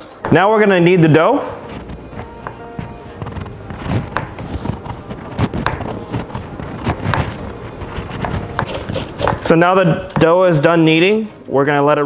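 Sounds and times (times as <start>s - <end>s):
hands kneading dough: 0.0s - 11.3s.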